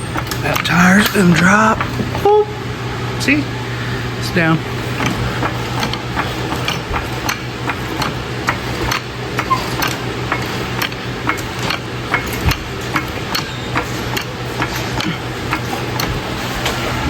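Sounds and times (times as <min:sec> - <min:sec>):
floor jack pump clicking: 0:00.0 - 0:02.3, 0:04.9 - 0:16.9
steady low hum: 0:00.0 - 0:17.0.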